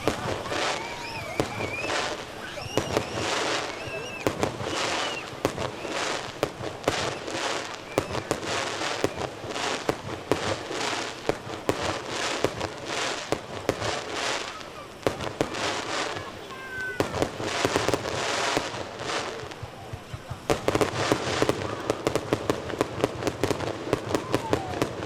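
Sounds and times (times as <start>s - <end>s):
fireworks bursting with sharp bangs: 0.0s - 25.0s
fireworks crackling: 0.0s - 25.0s.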